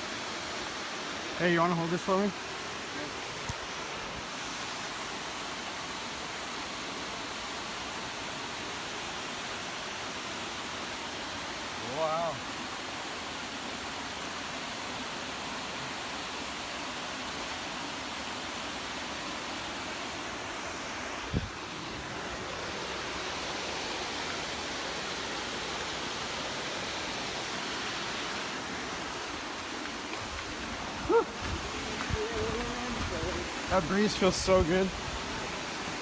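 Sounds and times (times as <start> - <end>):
waterfall roaring: 0.1 - 36.0.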